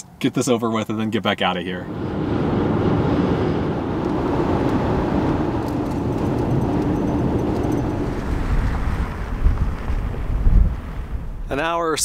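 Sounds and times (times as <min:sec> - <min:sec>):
car cabin road noise: 0:01.7 - 0:12.0.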